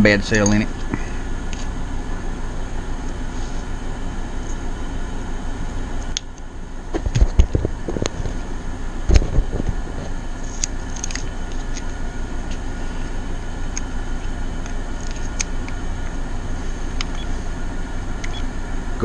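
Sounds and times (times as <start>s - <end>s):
air conditioners humming: 0.0s - 19.0s.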